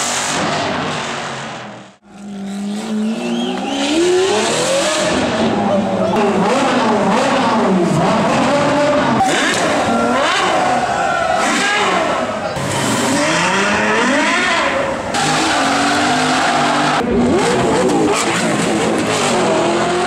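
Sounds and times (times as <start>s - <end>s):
sports car engine revving: 2.1s - 20.0s.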